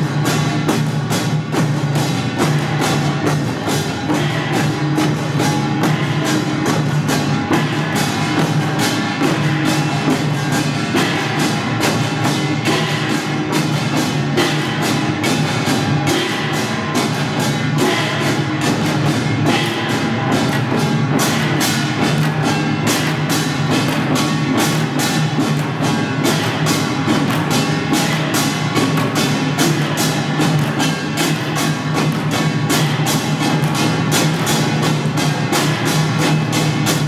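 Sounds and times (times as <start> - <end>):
drums beaten with sticks: 0.0 - 37.0
small brass gongs clanging: 0.0 - 37.0.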